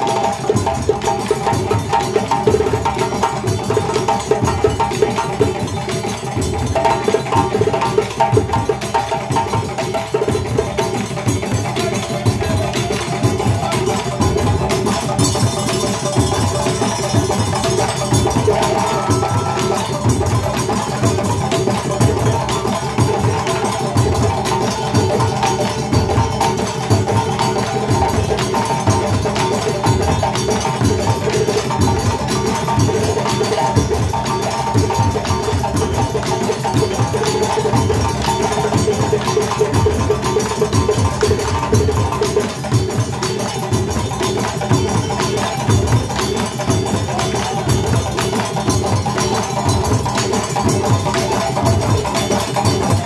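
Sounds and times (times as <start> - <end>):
drum ensemble playing fast rhythm: 0.0 - 53.0.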